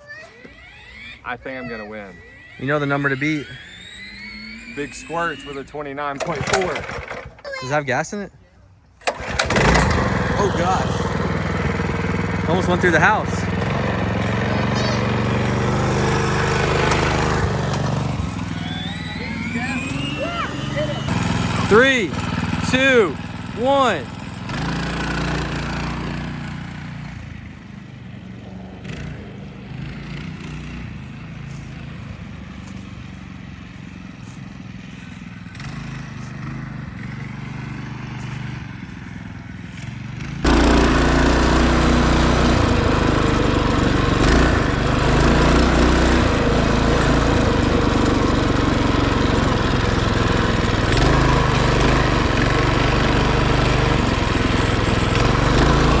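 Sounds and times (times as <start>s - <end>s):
minibike engine running: 0.0s - 7.9s, 9.0s - 56.0s.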